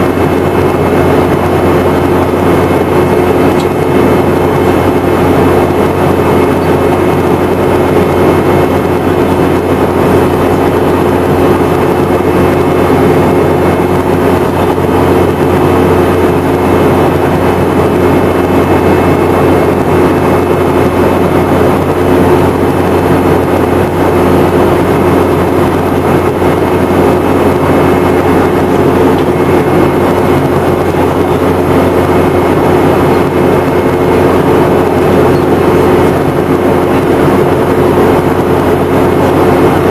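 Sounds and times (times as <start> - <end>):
airliner engine hum: 0.0 - 39.9
rush of airflow: 0.0 - 39.9
steady low tones: 0.0 - 39.9.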